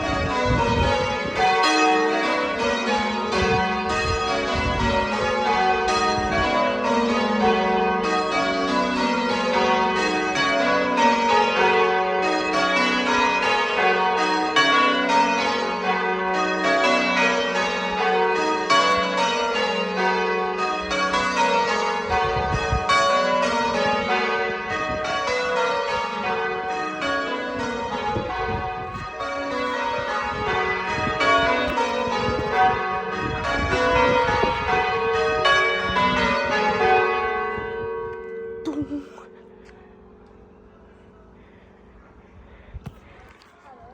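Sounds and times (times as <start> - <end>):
church bells pealing: 0.0 - 42.5.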